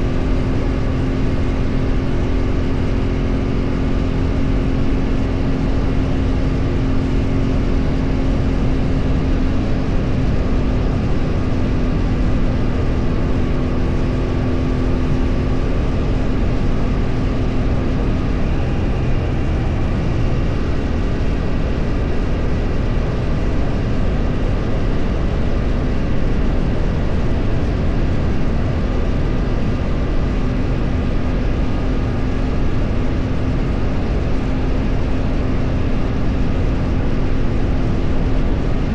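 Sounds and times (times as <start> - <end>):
vehicle engine hum: 0.0 - 38.9.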